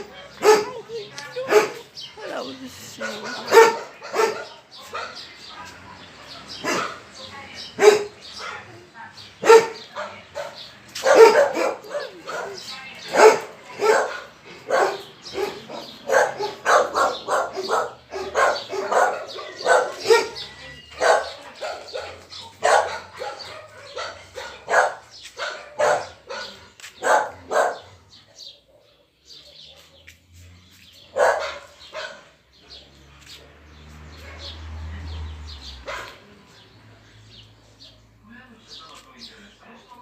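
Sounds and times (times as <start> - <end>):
dog barking: 0.0 - 1.9, 3.0 - 7.2, 7.8 - 8.8, 9.4 - 30.2, 31.0 - 33.3, 34.1 - 34.8, 35.6 - 36.6.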